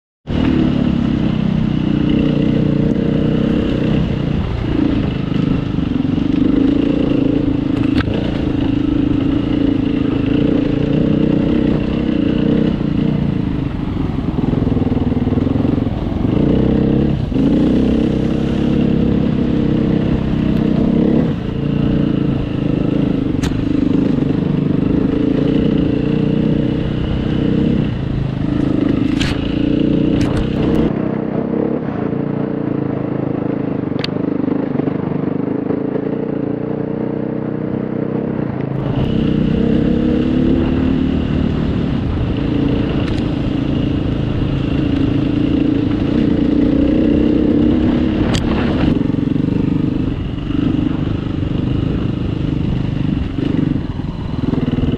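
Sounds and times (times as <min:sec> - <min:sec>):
motorcycle engine revving: 0:00.2 - 0:54.9.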